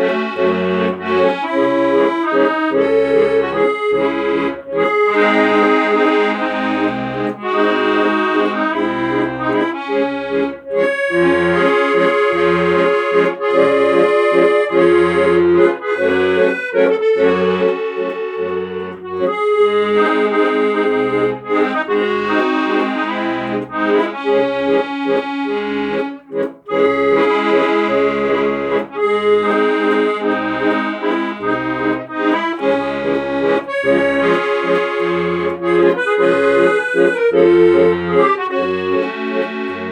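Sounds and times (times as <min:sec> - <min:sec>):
instrumental music with pulsing bass: 0:00.0 - 0:39.9.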